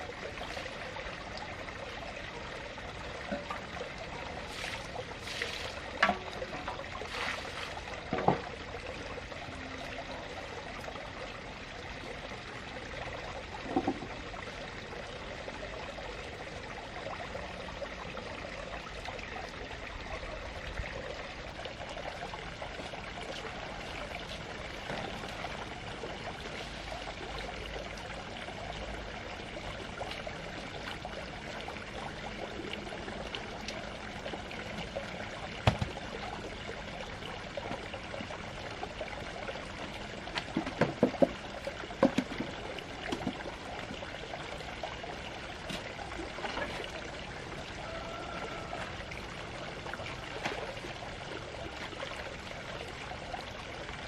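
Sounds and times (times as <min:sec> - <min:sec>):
water pouring: 0:00.0 - 0:54.0.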